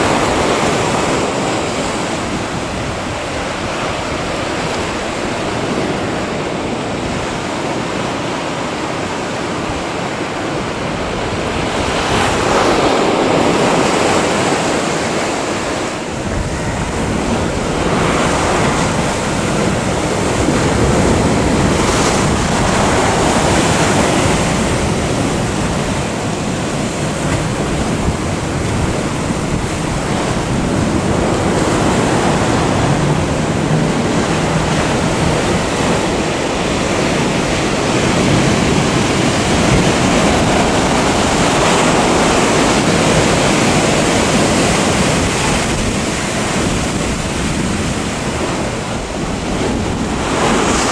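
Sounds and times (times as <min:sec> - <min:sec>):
waves breaking and churning: 0:00.0 - 0:50.9.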